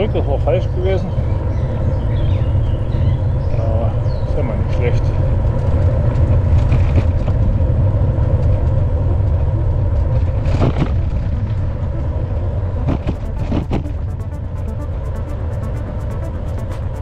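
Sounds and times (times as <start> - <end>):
wind and rolling noise: 0.0 - 17.0.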